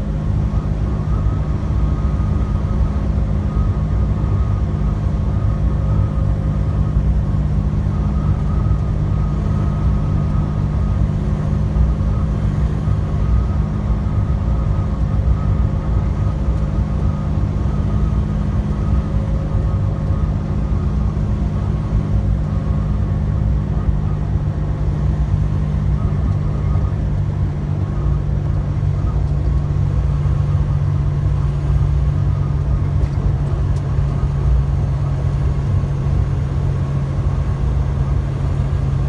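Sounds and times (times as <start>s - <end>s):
diesel engine drone: 0.0s - 39.0s
low road rumble: 0.0s - 39.0s.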